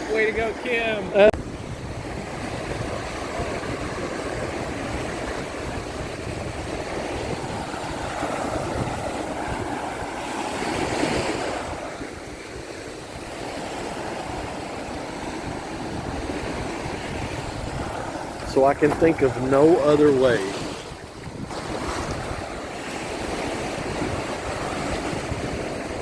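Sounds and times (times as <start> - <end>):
surf washing onto sand: 0.0 - 26.0
wave breaking: 0.0 - 26.0
wind buffeting microphone: 0.0 - 26.0.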